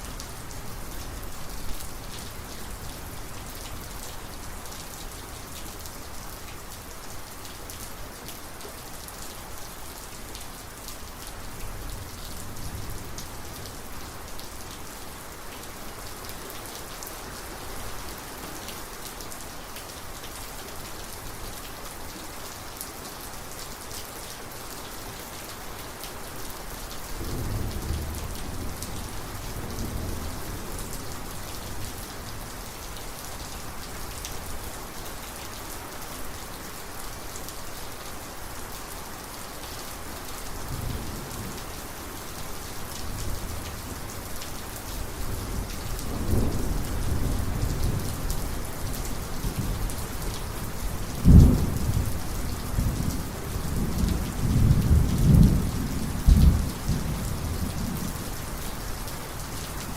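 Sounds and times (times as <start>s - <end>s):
heavy steady rain: 0.0s - 59.9s.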